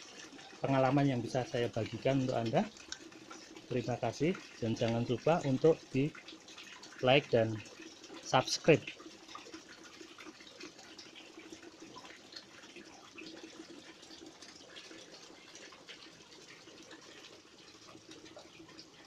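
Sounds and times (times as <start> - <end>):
drip-like ticks: 0.0 - 19.0
trickle of running water: 0.0 - 19.0.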